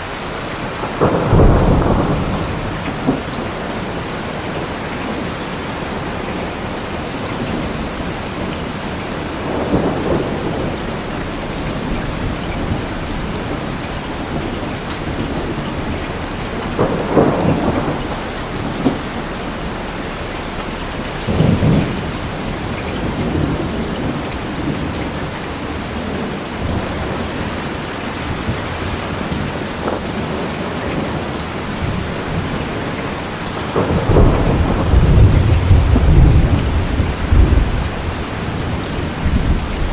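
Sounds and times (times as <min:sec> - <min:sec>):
rain falling: 0:00.0 - 0:39.9
thunder rumbling: 0:00.0 - 0:39.9.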